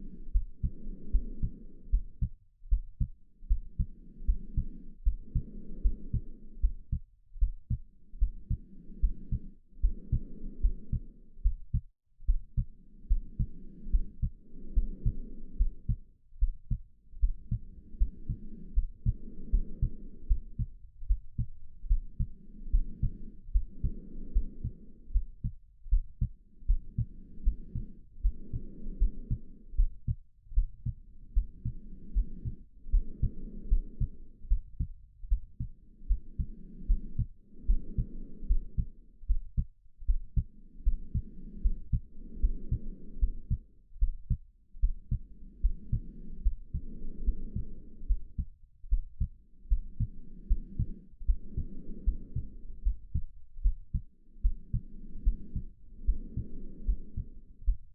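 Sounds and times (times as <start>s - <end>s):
slow human breathing: 0.0s - 57.9s
heartbeat thumps: 0.3s - 57.9s.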